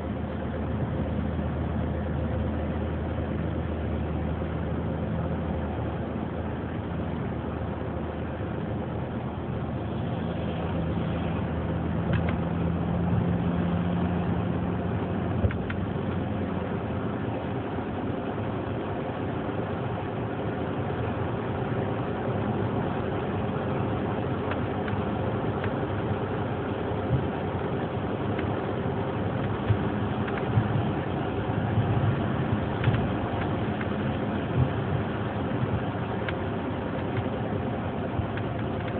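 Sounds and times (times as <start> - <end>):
car interior engine and road noise: 0.0 - 38.9.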